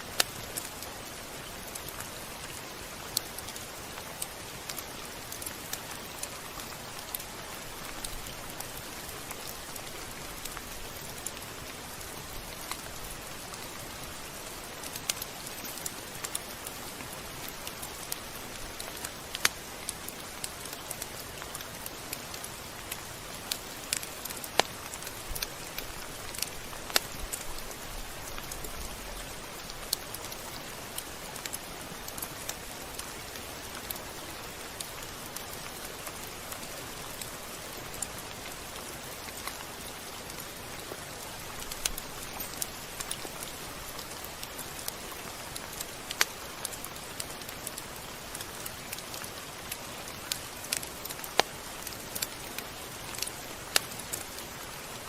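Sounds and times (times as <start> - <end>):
rain falling: 0.0 - 55.0
raindrops ticking on a surface: 0.0 - 55.0.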